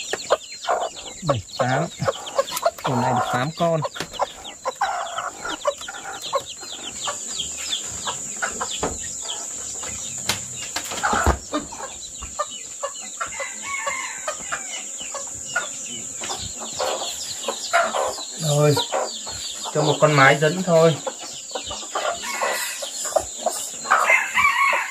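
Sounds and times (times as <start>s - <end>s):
chickens clucking: 0.0s - 24.9s
chicks peeping rapidly: 0.0s - 24.9s
steady high hiss: 0.0s - 24.9s.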